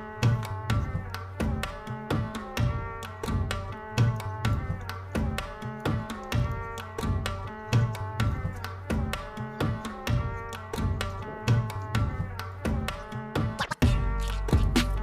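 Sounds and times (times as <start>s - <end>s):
hand percussion rhythm: 0.0s - 15.0s.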